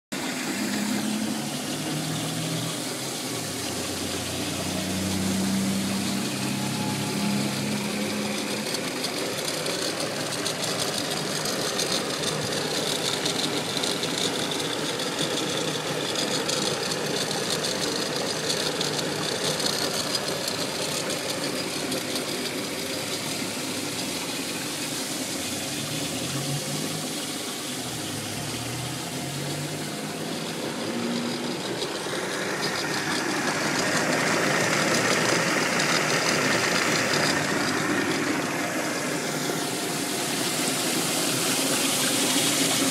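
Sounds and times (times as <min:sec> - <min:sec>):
grinding machine motor humming: 0:00.1 - 0:42.9
water spraying on wheels: 0:00.1 - 0:42.9.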